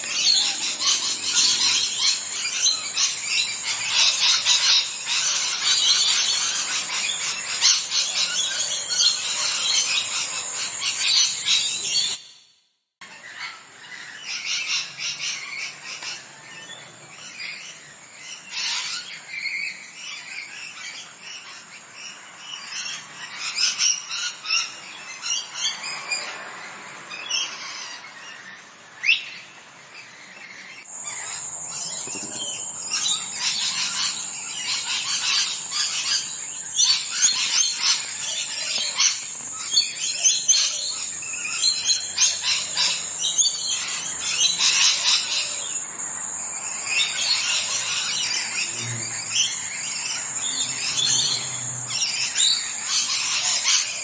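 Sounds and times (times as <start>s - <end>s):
parrots chirping: 0.0s - 12.4s, 13.0s - 54.0s.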